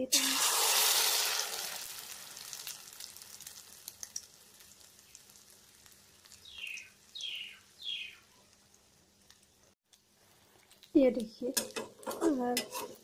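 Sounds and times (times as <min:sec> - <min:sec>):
egg frying in hot oil: 0:00.0 - 0:13.0.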